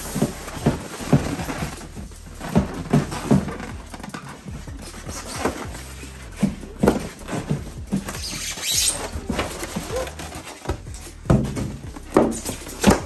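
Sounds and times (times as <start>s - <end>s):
foam squeaking and rubbing: 0.0s - 13.0s.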